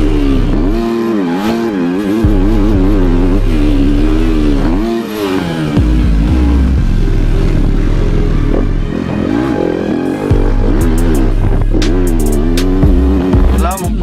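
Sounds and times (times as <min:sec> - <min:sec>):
dirt bike engine revving: 0:00.0 - 0:14.0
music with heavy bass line: 0:00.0 - 0:14.0.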